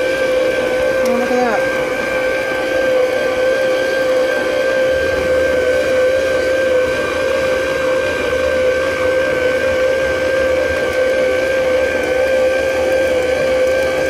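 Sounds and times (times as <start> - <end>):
electric mixer motor whine: 0.0 - 14.0
low hum: 0.0 - 14.0.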